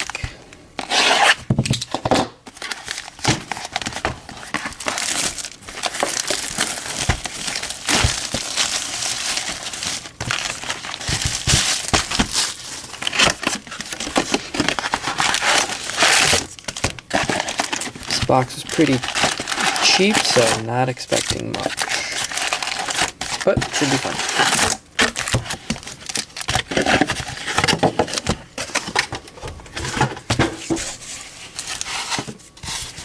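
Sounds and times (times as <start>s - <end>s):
plastic wrapping crinkling and tearing: 0.8s - 33.0s.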